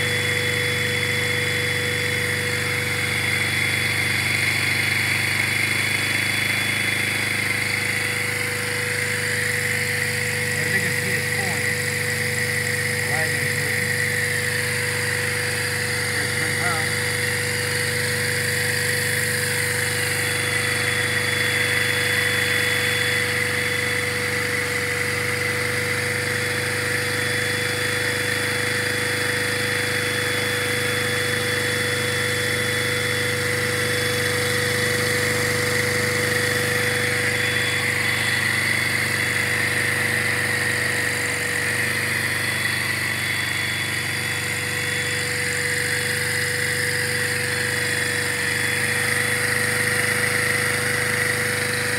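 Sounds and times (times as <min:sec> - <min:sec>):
toy vacuum engine whine: 0:05.4 - 0:51.9.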